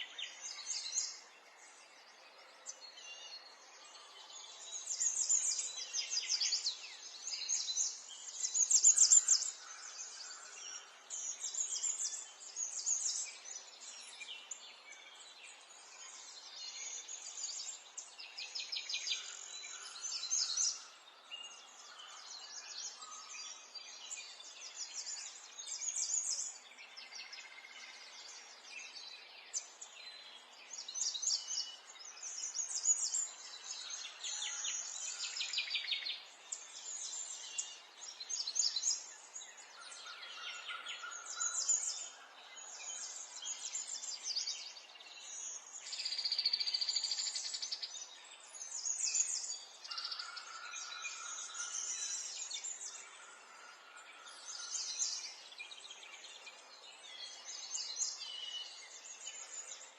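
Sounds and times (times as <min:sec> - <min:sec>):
faint background noise: 0:00.0 - 0:59.9
songbirds chirping and trilling: 0:00.0 - 0:59.9.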